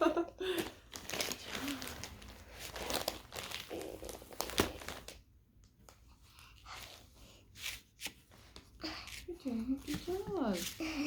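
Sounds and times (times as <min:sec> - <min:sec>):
craft material crinkling and rustling: 0:00.6 - 0:11.0.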